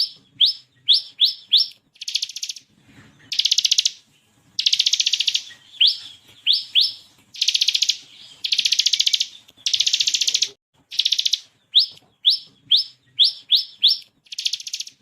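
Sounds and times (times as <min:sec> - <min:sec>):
bird buzzy trills: 0:00.0 - 0:02.7, 0:04.6 - 0:15.0.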